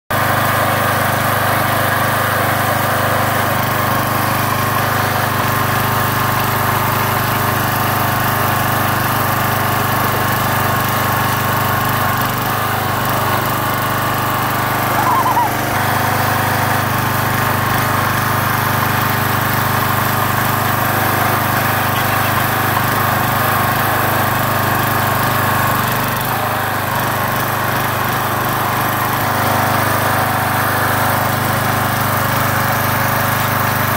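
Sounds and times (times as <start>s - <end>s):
small gasoline engine running: 0.1s - 33.9s.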